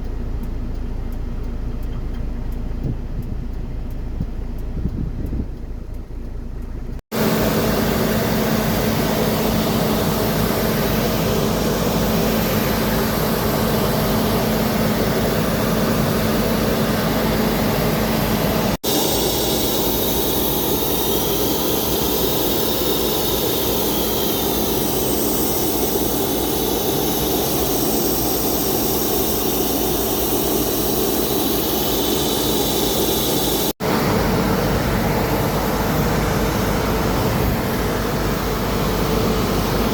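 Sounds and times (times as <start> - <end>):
aircraft turbine engine running: 7.1 - 39.9.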